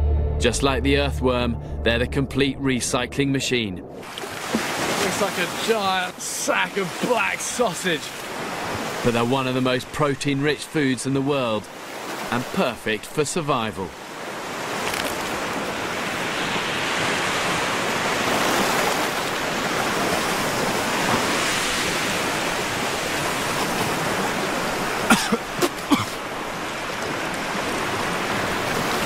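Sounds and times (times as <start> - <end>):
sea surf washing in: 4.0 - 29.0.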